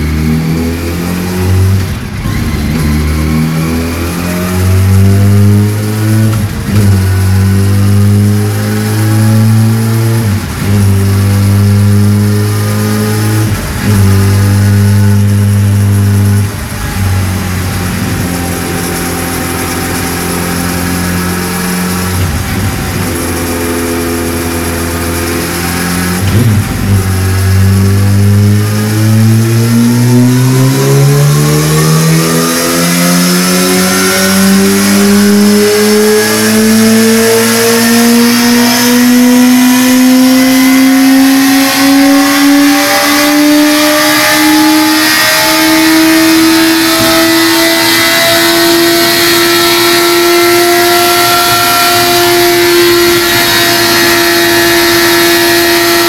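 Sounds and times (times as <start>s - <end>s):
motorcycle engine revving on dyno: 0.0s - 56.0s.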